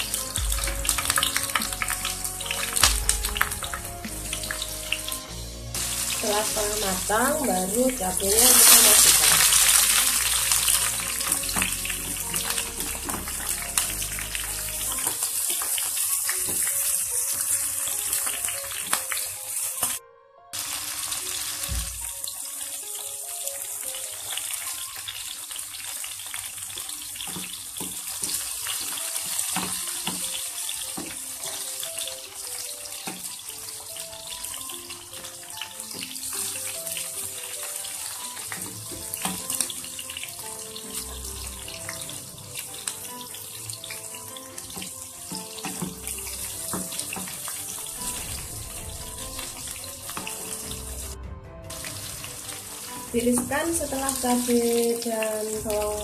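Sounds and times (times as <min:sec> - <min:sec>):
food sizzling in hot oil: 0:00.0 - 0:20.0, 0:20.6 - 0:56.0
background music: 0:00.0 - 0:56.0.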